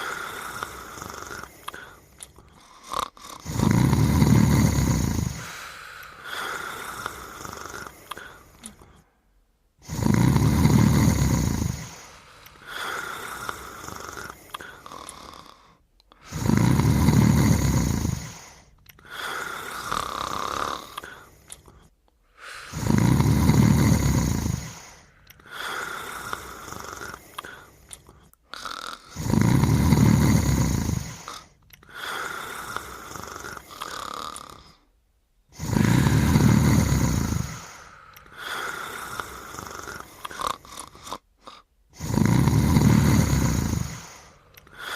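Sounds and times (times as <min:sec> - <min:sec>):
soft breath: 0:00.0 - 0:03.5, 0:04.1 - 0:10.0, 0:10.6 - 0:29.1, 0:30.0 - 0:41.8, 0:42.6 - 0:44.9
person snoring: 0:00.0 - 0:09.2, 0:09.8 - 0:44.9.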